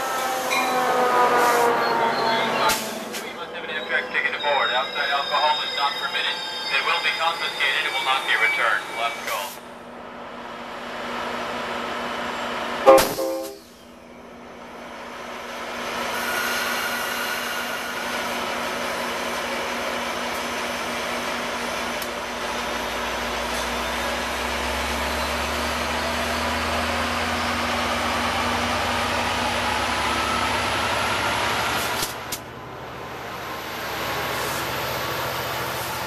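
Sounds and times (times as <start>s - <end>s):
locomotive engine rumble: 0.0s - 36.0s.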